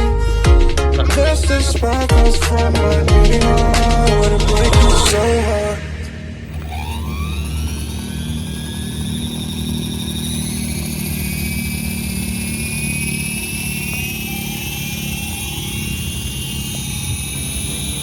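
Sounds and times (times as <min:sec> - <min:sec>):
electric motor whine: 0:01.0 - 0:18.0
low drone of spinning rotor: 0:01.0 - 0:18.0.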